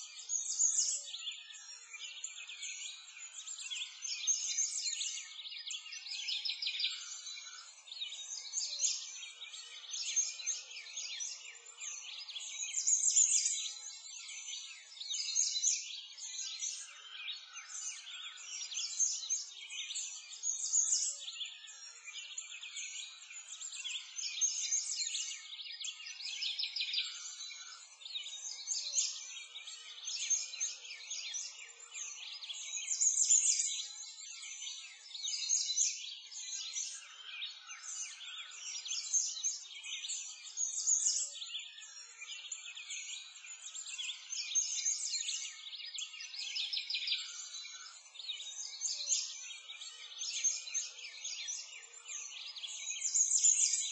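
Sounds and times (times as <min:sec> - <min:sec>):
small birds chirping and twittering: 0:00.0 - 0:53.9.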